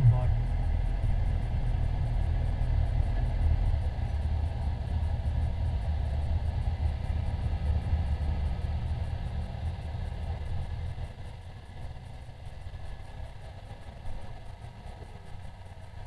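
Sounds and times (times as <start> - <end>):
engines idling: 0.0 - 16.0.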